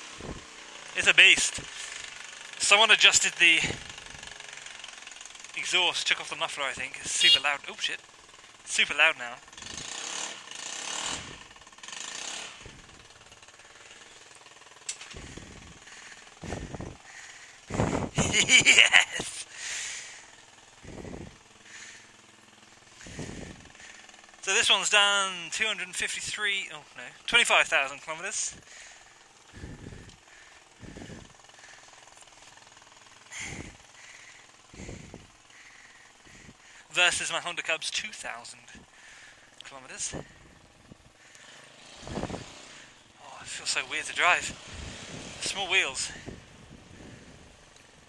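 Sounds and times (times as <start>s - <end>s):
scooter engine rattling exhaust: 0.0s - 48.0s.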